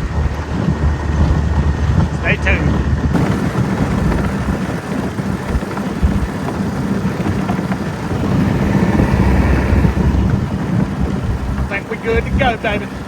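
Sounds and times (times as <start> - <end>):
outboard motor running: 0.0 - 13.0
water rushing past: 0.0 - 13.0
wind rumbling on microphone: 0.0 - 13.0.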